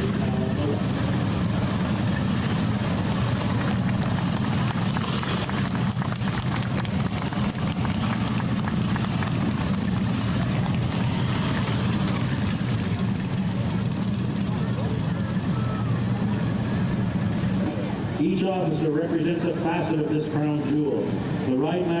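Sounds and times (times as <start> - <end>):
motorcycles running at low speed: 0.0 - 22.0.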